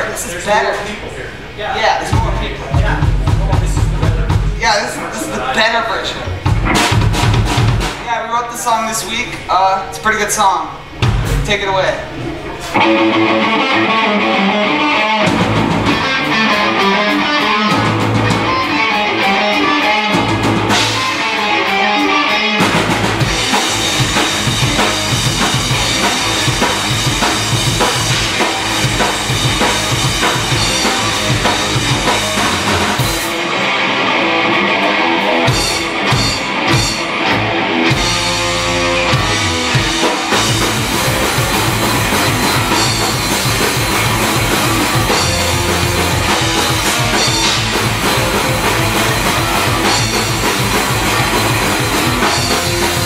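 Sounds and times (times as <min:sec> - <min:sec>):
live rock band playing: 0:02.1 - 0:08.2, 0:10.8 - 0:53.0.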